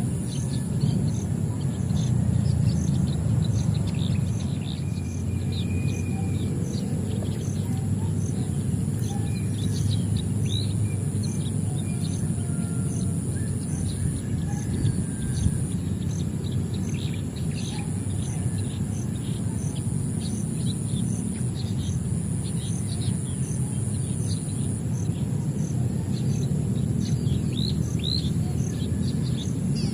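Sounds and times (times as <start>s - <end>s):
birds chirping: 0.0s - 29.9s
high insect drone: 0.0s - 29.9s.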